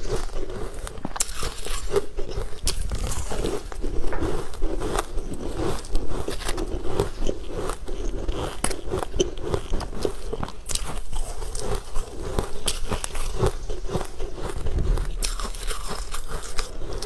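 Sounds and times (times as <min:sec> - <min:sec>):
crackles and clicks of ice chunks: 0:00.0 - 0:17.0
crunching and chewing ice: 0:00.0 - 0:17.0.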